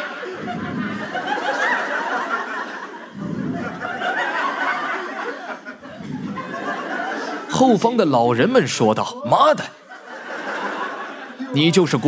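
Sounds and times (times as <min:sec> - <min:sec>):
audience laughing: 0:00.0 - 0:08.4, 0:09.5 - 0:12.0.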